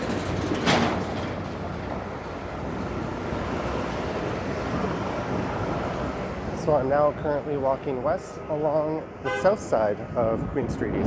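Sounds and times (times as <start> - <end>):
streetcar rumbling on rails: 0.0 - 11.0.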